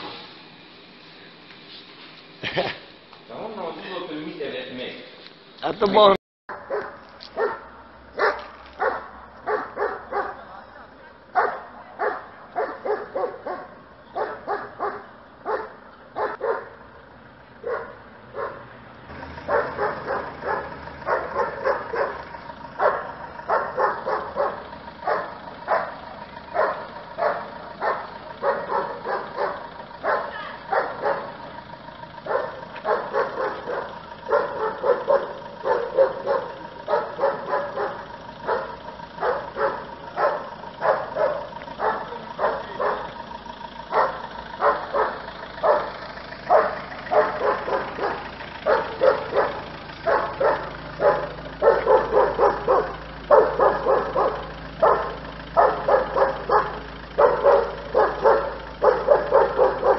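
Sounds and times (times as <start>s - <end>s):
dog barking: 6.5s - 10.6s, 11.3s - 16.8s, 17.6s - 18.7s, 19.5s - 31.5s, 32.2s - 43.3s, 43.9s - 59.9s.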